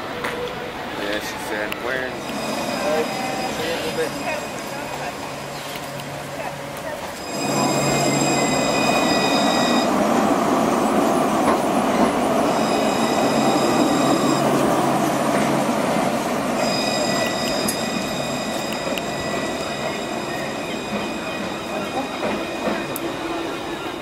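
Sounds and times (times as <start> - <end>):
tram wheels rumbling: 0.0 - 24.0.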